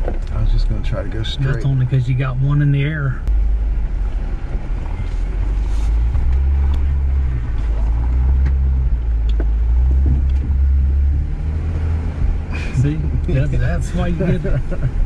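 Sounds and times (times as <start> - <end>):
vehicle engine running low: 0.0 - 15.0.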